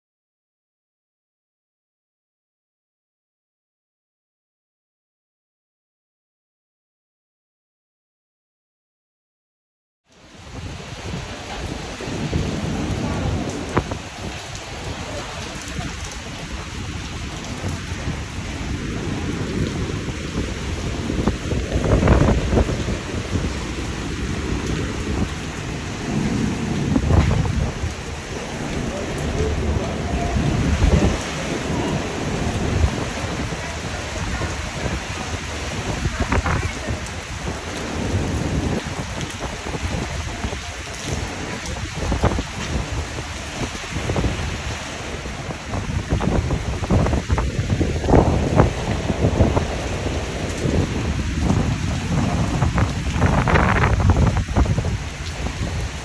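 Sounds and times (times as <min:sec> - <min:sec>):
heavy rain hissing: 0:10.2 - 0:56.0
wind gusts buffeting microphone: 0:10.4 - 0:56.0.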